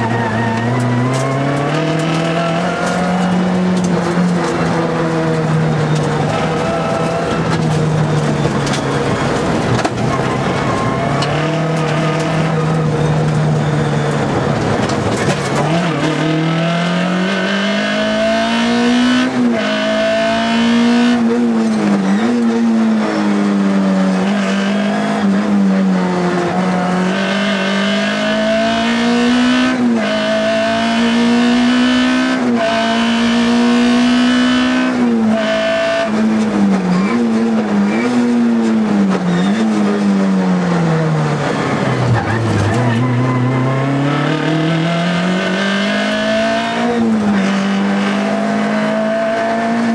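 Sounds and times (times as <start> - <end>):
rally car engine revving: 0.0 - 49.9
tyre and road noise: 0.0 - 49.9.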